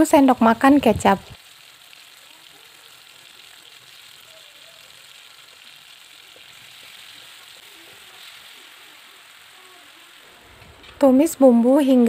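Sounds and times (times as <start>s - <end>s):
paste sizzling in hot oil: 0.2s - 11.5s.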